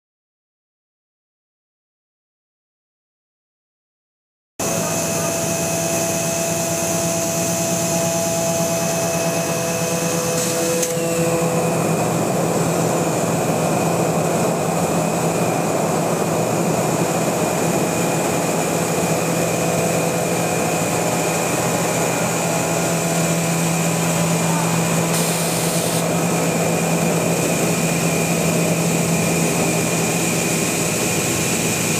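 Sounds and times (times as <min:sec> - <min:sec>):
milling machinery whirring: 0:04.6 - 0:31.9.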